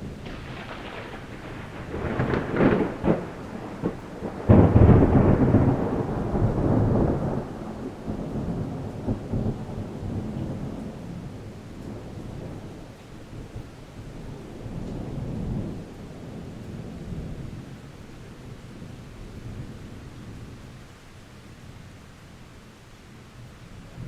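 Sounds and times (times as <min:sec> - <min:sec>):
thunder clap and rumble: 0:00.0 - 0:20.6
thunder crackles: 0:00.0 - 0:20.6
rain hiss: 0:00.0 - 0:24.0.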